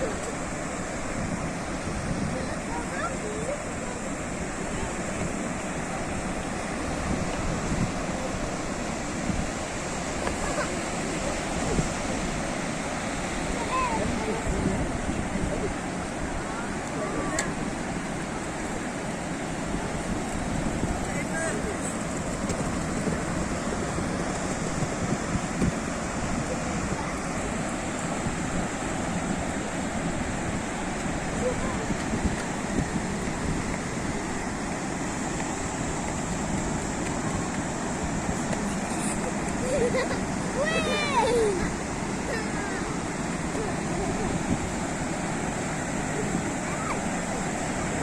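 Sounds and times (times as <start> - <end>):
sea surf washing onto shore: 0.0 - 48.0
wind rumbling on microphone: 0.0 - 48.0.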